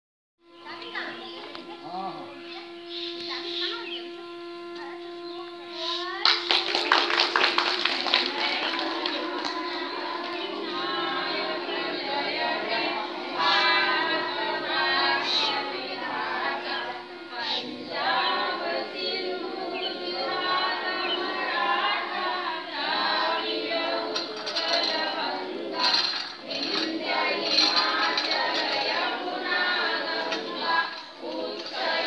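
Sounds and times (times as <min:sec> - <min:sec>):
steady held tone: 0:00.4 - 0:32.0
children singing in chorus: 0:05.8 - 0:32.0.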